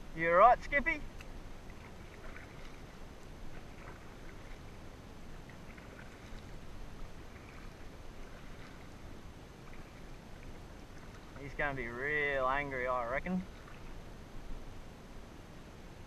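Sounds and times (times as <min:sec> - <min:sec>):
water splashing from paddling: 0:00.0 - 0:14.6
steady low rumble: 0:00.0 - 0:16.0.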